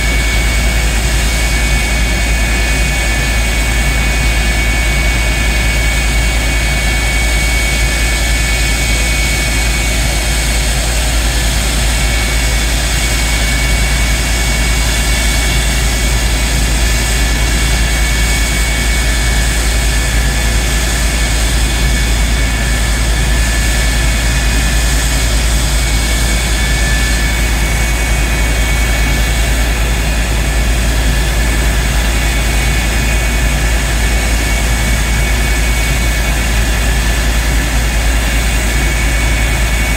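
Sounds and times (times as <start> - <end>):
jet engine running steadily: 0.0 - 39.9.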